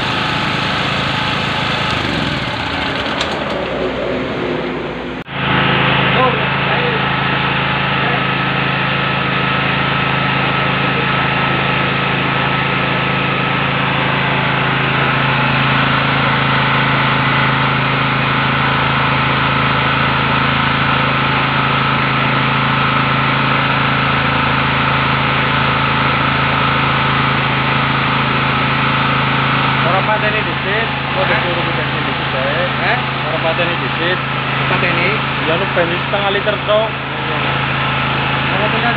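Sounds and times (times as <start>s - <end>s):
generator engine drone: 0.0s - 38.9s.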